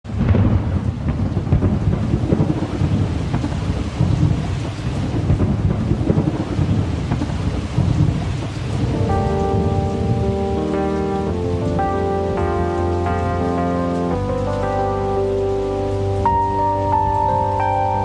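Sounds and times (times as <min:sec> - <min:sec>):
heavy rain: 0:00.0 - 0:18.0
thunder rumbling: 0:00.0 - 0:18.0.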